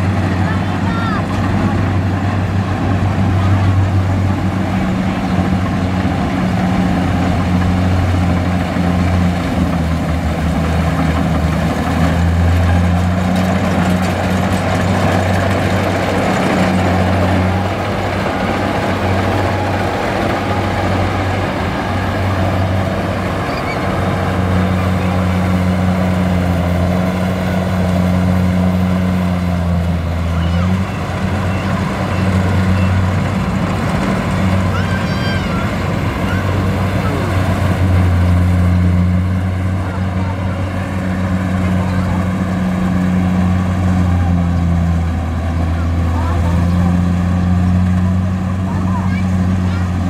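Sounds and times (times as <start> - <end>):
diesel engine running: 0.0 - 50.0
machinery rattling and whirring: 0.0 - 50.0.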